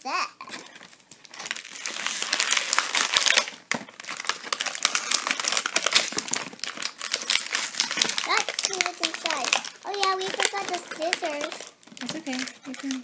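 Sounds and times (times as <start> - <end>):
plastic packaging crinkling: 0.5 - 13.0.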